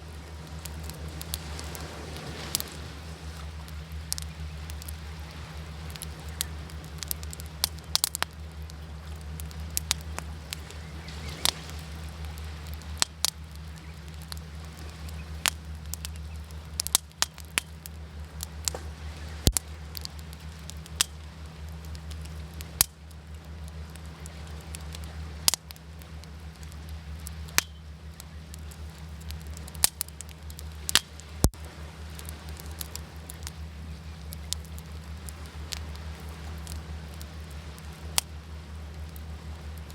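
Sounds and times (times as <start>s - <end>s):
low steady rumble: 0.0s - 39.9s
wood fire crackling: 0.0s - 39.9s.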